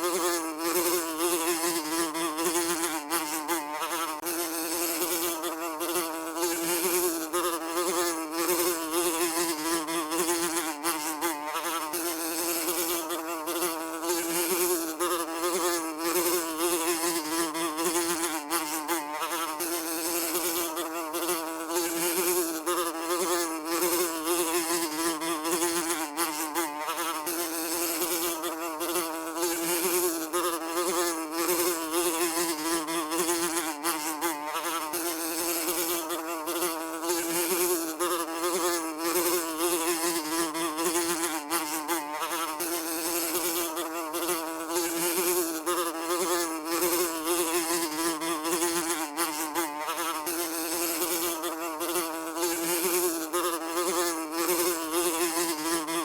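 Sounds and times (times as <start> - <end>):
housefly buzzing: 0.0 - 56.0.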